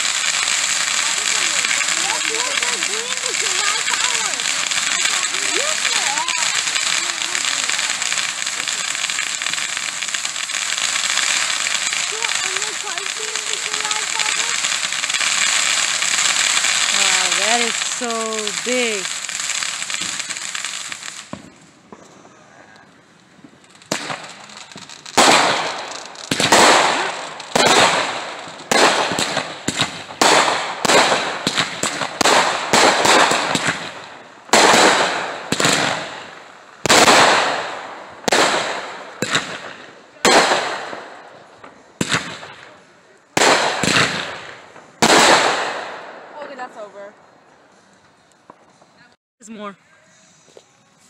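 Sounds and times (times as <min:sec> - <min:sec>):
firework cake bangs: 0:00.0 - 0:22.4, 0:23.8 - 0:46.2
firework hissing: 0:00.0 - 0:49.1.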